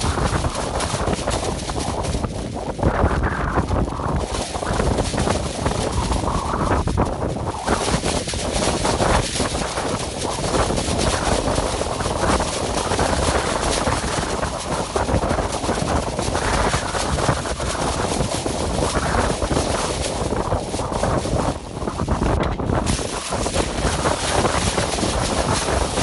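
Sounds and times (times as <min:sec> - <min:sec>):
dense rushing noise: 0:00.0 - 0:26.0.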